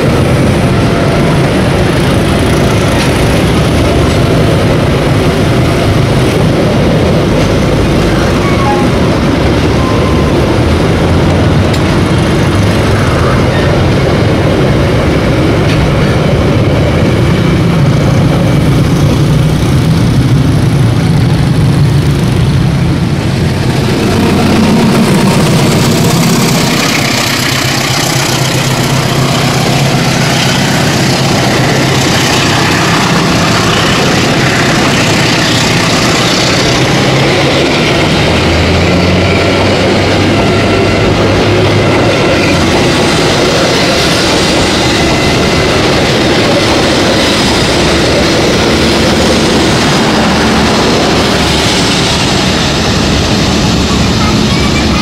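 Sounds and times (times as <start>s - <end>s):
diesel train engine hum: 0.0s - 55.0s
train wheels rumbling on rails: 0.0s - 55.0s.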